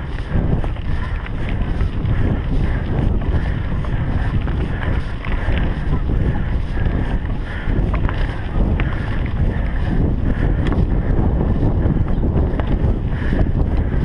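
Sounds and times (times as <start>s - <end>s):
bike clicks and rattles: 0.0s - 14.0s
bike tyres rolling on dirt: 0.0s - 14.0s
wind buffeting microphone: 0.0s - 14.0s.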